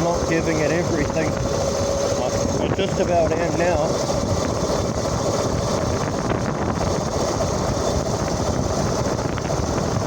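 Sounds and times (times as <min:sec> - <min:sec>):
road noise: 0:00.0 - 0:10.0
wind rush over microphone: 0:00.0 - 0:10.0.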